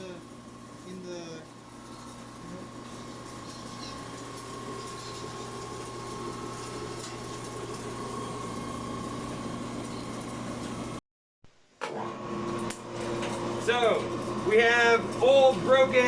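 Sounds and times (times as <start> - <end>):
machine hum and whine: 0.0 - 11.0, 11.9 - 16.0.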